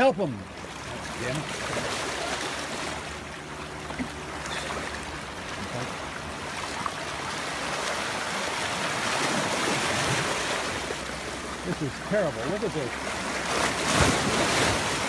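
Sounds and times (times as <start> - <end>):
sharp splashes: 0.0 - 15.0
water sloshing over rocks: 0.0 - 15.0.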